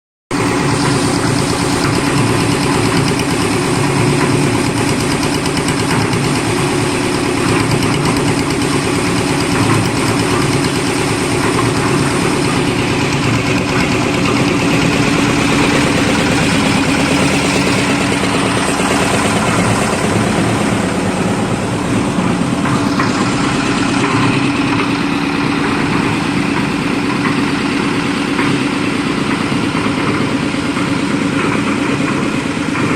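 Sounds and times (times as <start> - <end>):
diesel concrete mixer running: 0.3 - 32.9.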